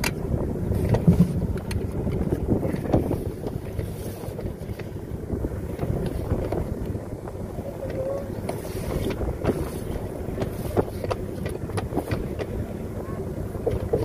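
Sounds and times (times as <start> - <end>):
boat hull knocking on waves: 0.0 - 14.0
wind buffeting microphone: 0.0 - 14.0.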